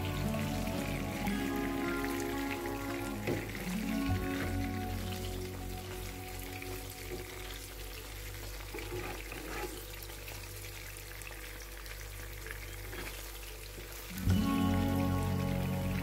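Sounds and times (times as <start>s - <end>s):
frying oil sizzling and crackling: 0.0s - 16.0s.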